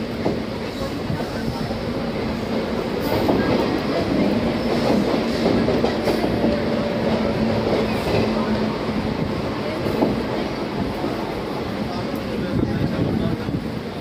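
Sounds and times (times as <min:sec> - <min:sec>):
clickety-clack of rails: 0:00.0 - 0:14.0
train wheels rumbling on rails: 0:00.0 - 0:14.0.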